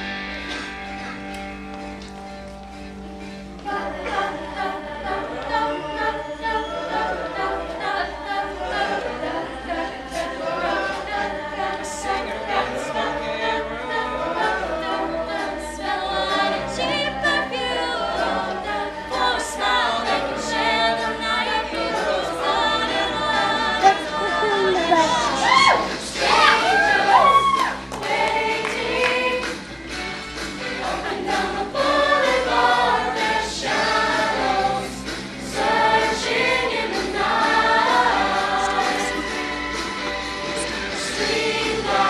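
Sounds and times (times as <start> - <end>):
children's choir singing: 3.6 - 29.7, 30.3 - 42.0.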